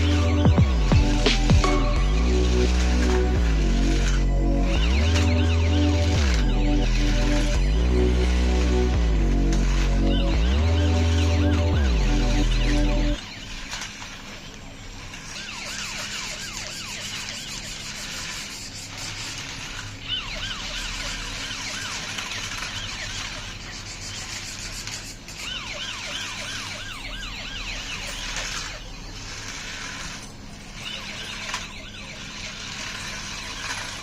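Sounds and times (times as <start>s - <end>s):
toy siren warbling: 0.0s - 34.0s.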